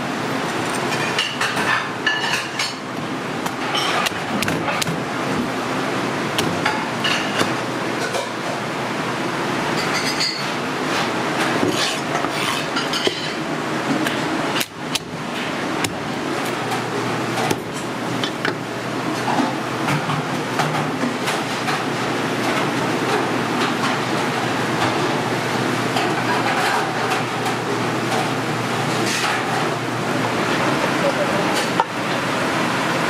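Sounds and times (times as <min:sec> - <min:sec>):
kitchen roar: 0:00.0 - 0:33.0.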